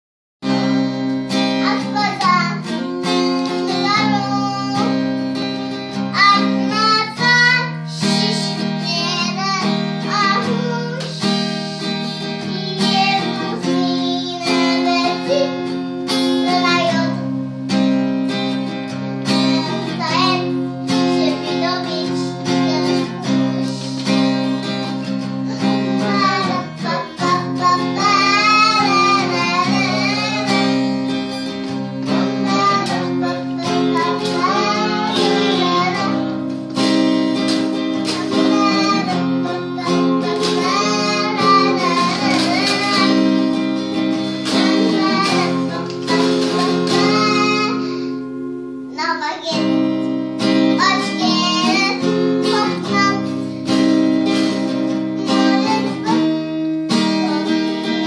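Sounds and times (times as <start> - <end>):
strummed acoustic guitar: 0.4 - 58.0
girl and man singing: 1.6 - 17.4, 19.2 - 48.3, 48.9 - 58.0.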